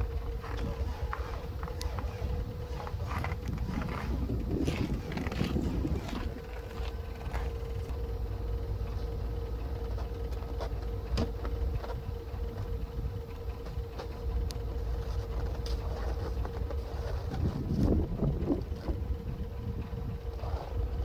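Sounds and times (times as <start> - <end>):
engine idling rumble: 0.0 - 21.0
faint engine ticks: 0.0 - 21.0
thin steady whine: 0.0 - 21.0.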